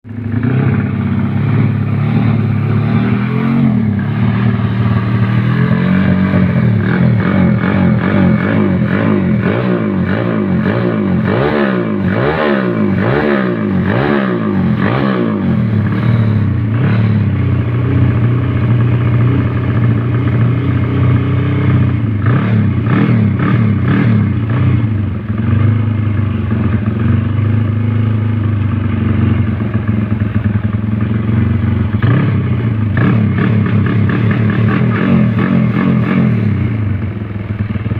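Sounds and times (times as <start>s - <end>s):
motorcycle engine revving and idling: 0.0s - 37.9s.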